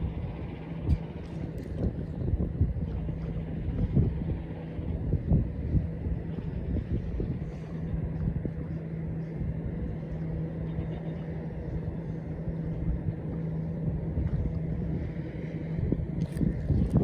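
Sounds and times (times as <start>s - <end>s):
engine humming: 0.0s - 17.0s
wind on microphone: 0.0s - 17.0s.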